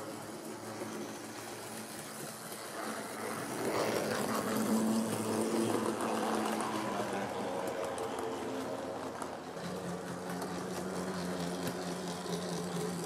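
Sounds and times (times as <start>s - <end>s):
model train motor hum: 0.0s - 13.0s
wheels clattering on rails: 0.0s - 13.0s.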